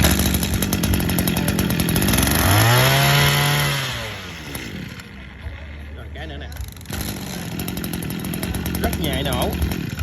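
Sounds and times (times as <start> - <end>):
brush cutter engine revving: 0.0 - 5.2, 6.3 - 10.0.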